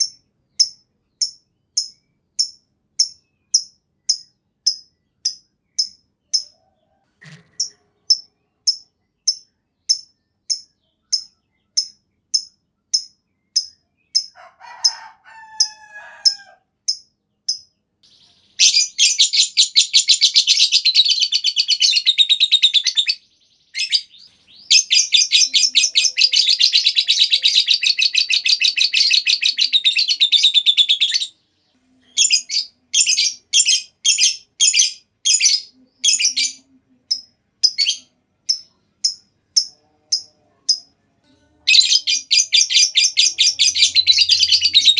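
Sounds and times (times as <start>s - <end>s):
bird chirping and trilling: 0.0s - 31.4s, 32.0s - 44.9s.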